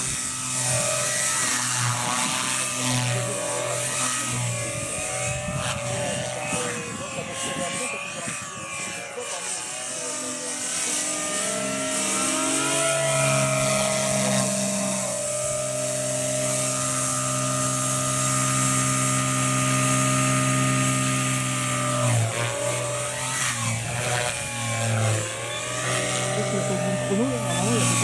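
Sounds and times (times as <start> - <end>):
rc helicopter rotor hum: 0.0 - 28.0.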